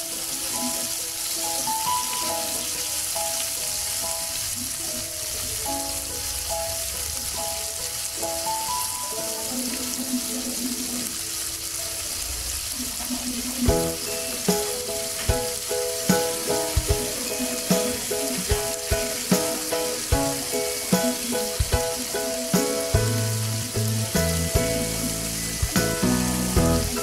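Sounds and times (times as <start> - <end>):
gentle background music: 0.0 - 12.6, 13.4 - 27.0
food sizzling in a pan: 0.0 - 27.0.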